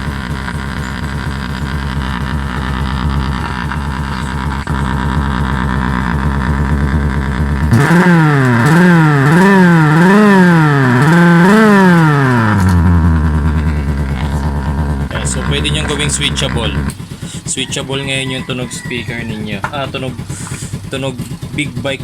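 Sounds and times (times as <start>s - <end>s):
speaker tone following engine: 0.0s - 20.2s
motorcycle idling: 0.0s - 22.0s.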